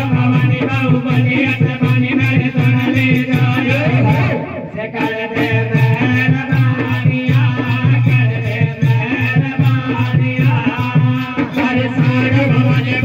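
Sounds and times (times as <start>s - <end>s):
drum beating quick rhythm: 0.0s - 13.0s
jingling percussion: 0.0s - 13.0s.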